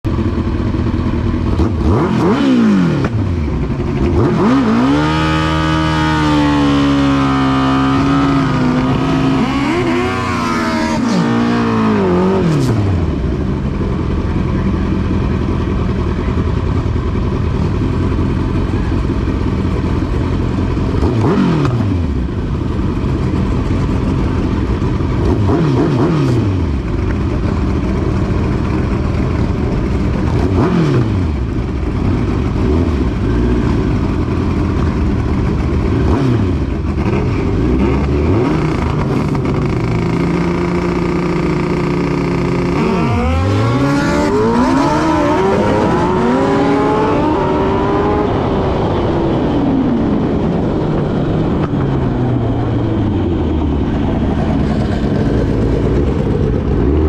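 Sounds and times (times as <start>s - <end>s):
drag racing engines: 0.1s - 57.0s
engines passing by: 1.4s - 57.0s.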